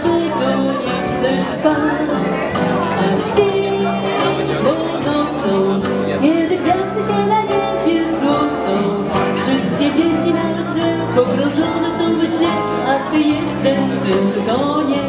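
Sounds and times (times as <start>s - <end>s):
backing music with steady beat: 0.0s - 15.0s.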